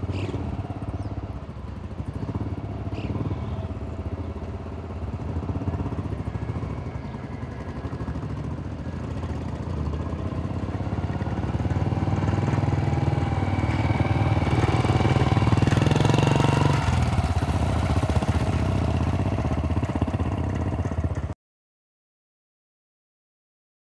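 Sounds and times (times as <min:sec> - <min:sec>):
vehicle engine running: 0:00.0 - 0:21.4.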